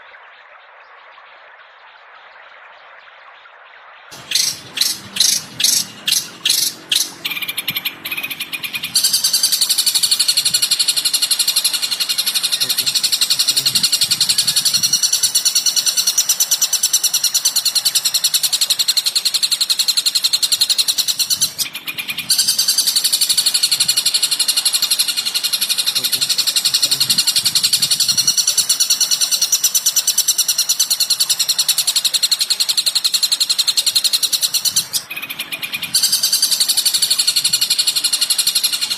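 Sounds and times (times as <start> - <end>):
songbird chirping and chattering: 4.1 - 38.9.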